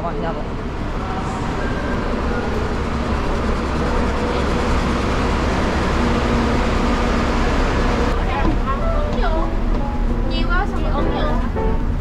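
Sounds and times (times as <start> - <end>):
coach engine idling: 0.0 - 12.0.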